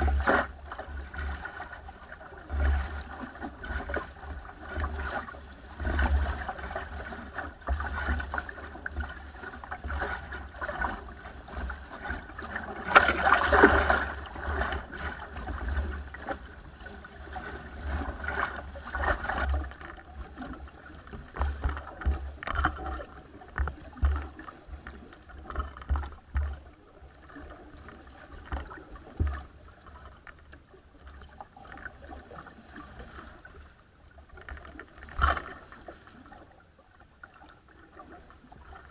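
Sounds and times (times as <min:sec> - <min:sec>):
water splashing against boat: 0:00.0 - 0:38.9.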